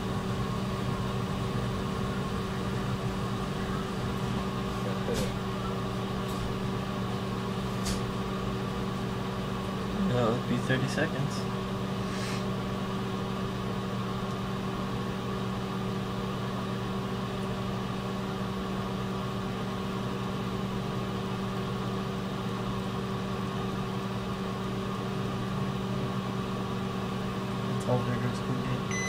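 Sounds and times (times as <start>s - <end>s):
microwave oven humming: 0.0s - 29.0s.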